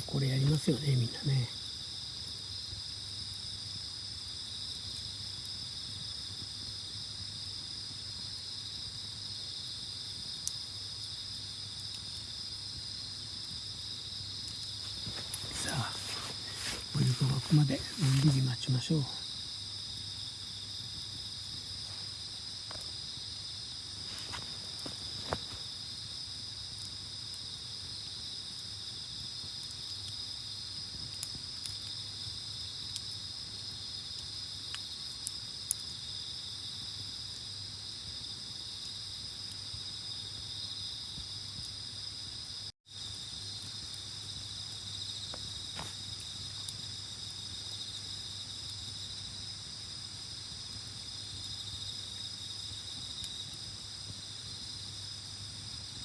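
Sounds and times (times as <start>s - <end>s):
campfire crackling: 0.0s - 41.9s, 42.5s - 56.0s
night insects chirring: 0.0s - 56.0s.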